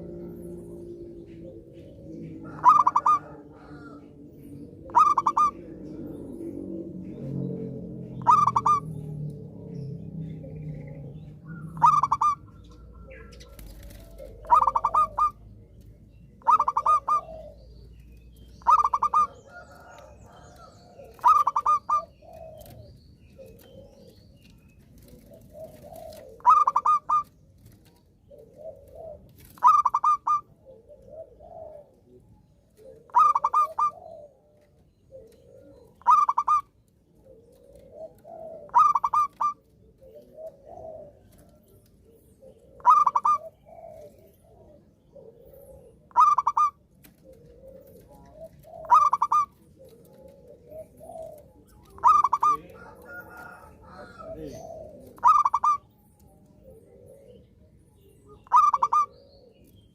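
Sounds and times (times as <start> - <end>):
dove pulsed cooing song: 0.0 - 59.9
soft low dove coos: 0.0 - 59.9.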